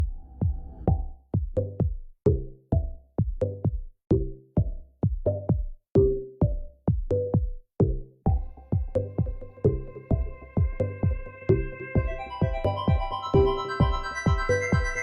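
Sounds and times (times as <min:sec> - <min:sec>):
electronic music with steady beat: 0:00.0 - 0:15.0.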